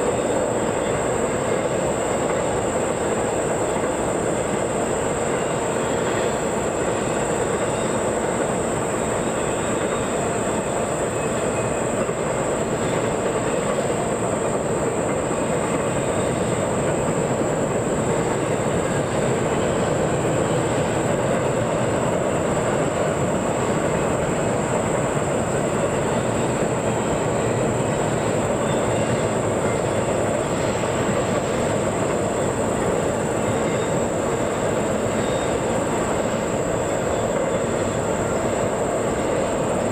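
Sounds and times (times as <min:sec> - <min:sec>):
train rolling on rails: 0:00.0 - 0:39.9.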